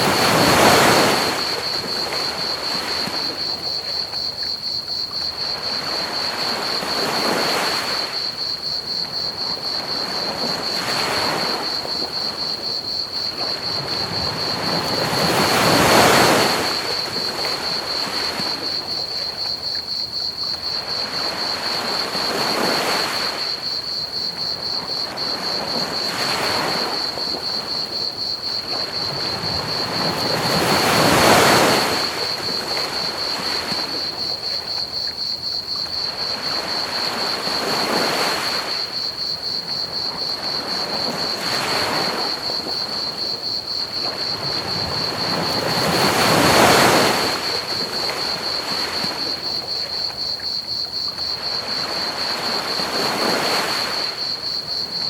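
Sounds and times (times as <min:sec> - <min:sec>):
crickets chirring: 0:00.0 - 0:55.0
ocean waves washing onto beach: 0:00.0 - 0:55.0.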